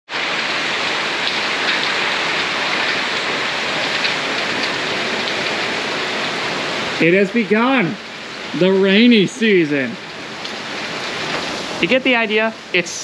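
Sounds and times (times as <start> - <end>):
heavy rain downpour: 0.1 - 13.0.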